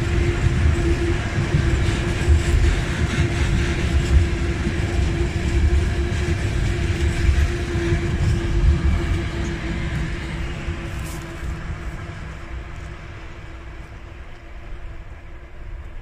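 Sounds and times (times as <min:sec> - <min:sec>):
diesel locomotive engine: 0:00.0 - 0:16.0
train wheels rumbling on rails: 0:00.0 - 0:16.0.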